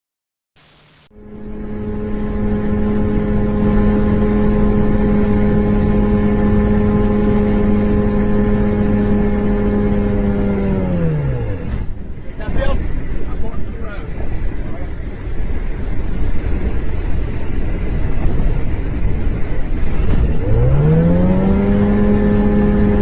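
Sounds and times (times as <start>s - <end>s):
engine running: 1.1s - 23.0s.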